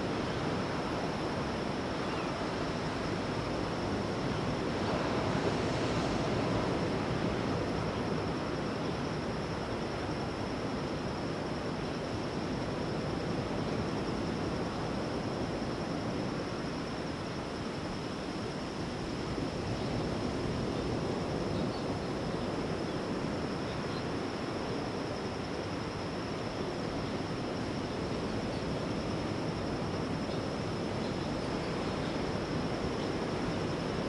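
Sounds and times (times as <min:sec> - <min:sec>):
ocean surf washing on beach: 0:00.0 - 0:34.0.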